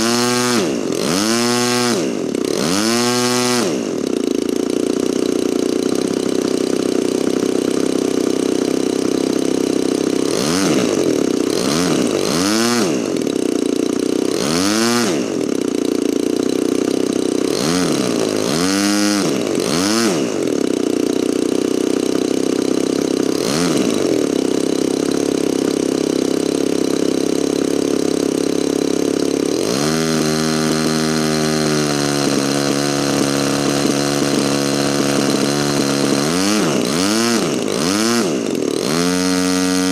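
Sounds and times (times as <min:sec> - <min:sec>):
model airplane engine revving: 0:00.0 - 0:39.9.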